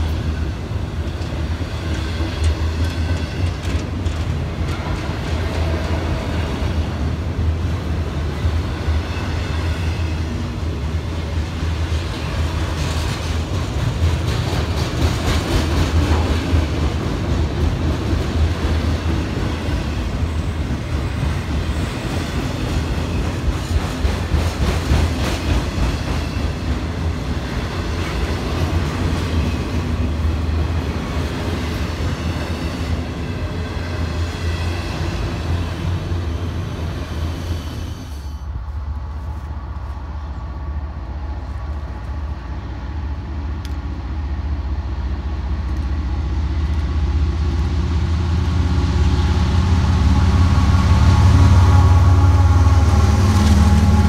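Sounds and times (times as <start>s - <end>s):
diesel locomotive engine approaching: 0.0s - 54.0s
freight train rolling past: 0.0s - 54.0s.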